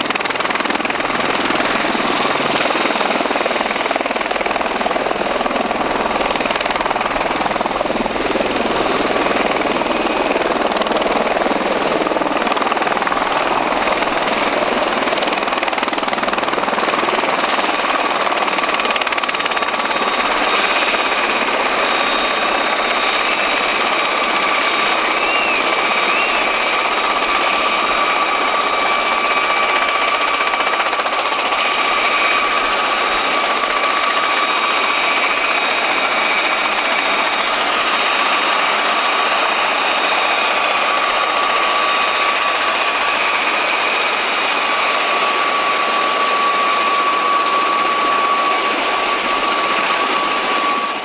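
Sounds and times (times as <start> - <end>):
aircraft engines and rotors roaring: 0.0 - 51.0.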